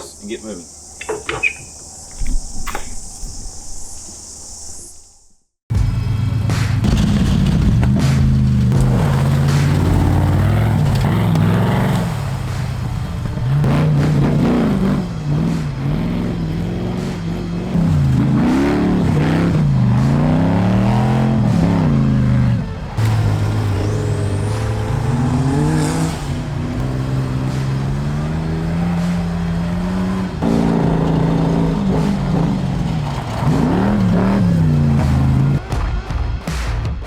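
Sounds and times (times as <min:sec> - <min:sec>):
off-road vehicle engine revving: 0:05.7 - 0:35.7.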